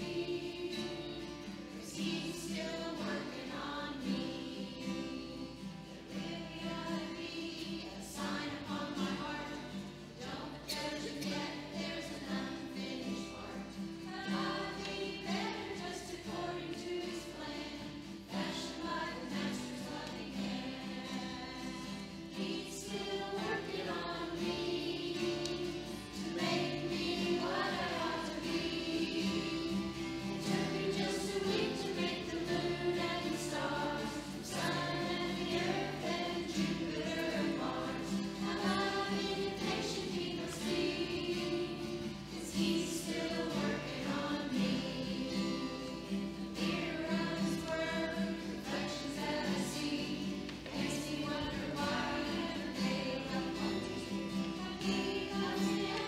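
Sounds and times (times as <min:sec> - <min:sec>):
acoustic guitar: 0:00.0 - 0:56.0
children singing together: 0:00.0 - 0:56.0.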